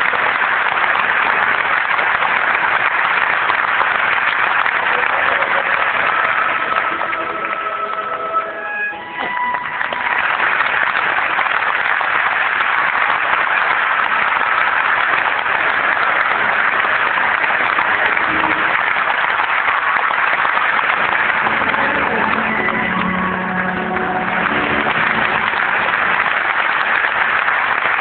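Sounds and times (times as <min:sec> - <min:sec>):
audience applauding: 0:00.0 - 0:28.0
stage music: 0:00.0 - 0:28.0.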